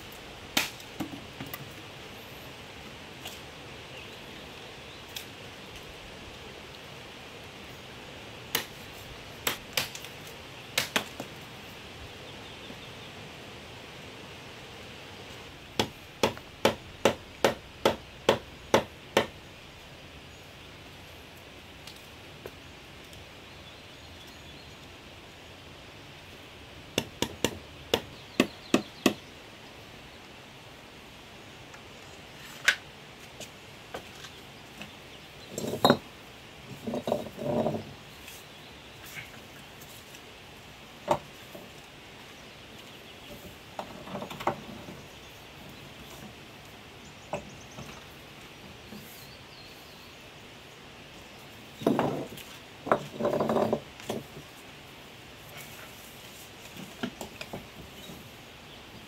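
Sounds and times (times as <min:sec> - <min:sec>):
outdoor hiss: 0:00.0 - 0:59.0.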